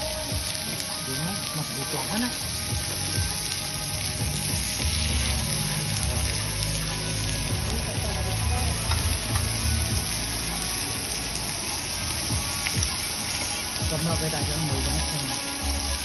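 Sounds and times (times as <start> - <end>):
background music: 0.0 - 16.0
beef sizzling: 0.0 - 16.0.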